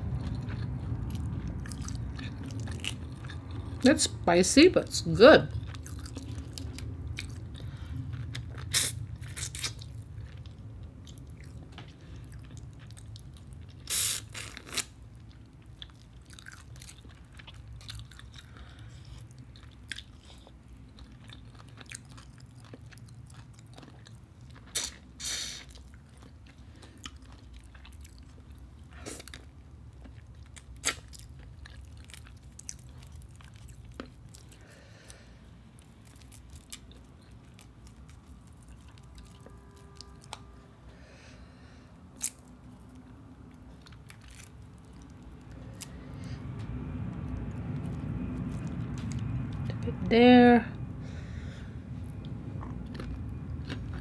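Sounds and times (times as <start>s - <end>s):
chewing shrimp: 0.0s - 3.9s, 5.5s - 40.5s, 42.1s - 49.8s, 51.9s - 54.0s.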